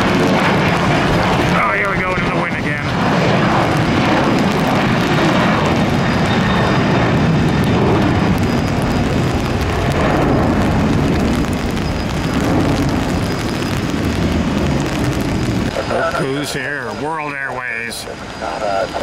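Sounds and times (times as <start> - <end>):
wind noise on microphone: 0.0 - 17.2
jet engines roaring: 0.0 - 19.0.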